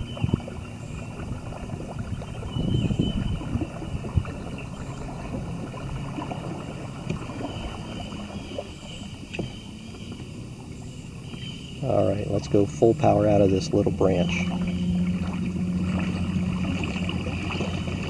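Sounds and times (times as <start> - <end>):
water churning around kayak: 0.0 - 18.0.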